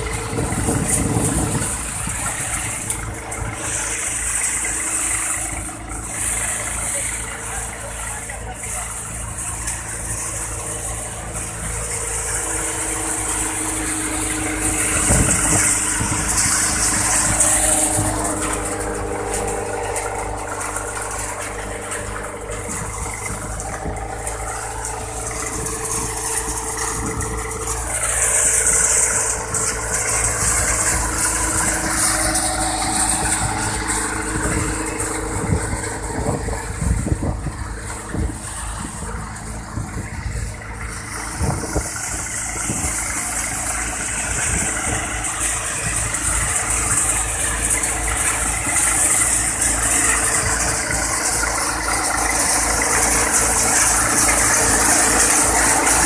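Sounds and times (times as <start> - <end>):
thresher running: 0.0 - 56.0.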